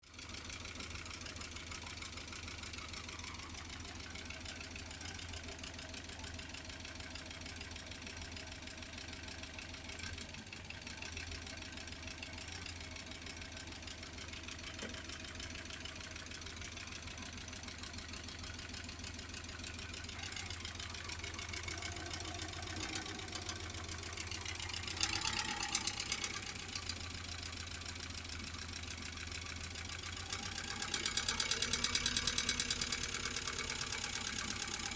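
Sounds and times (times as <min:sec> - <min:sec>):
car engine knocking: 0:00.1 - 0:34.9.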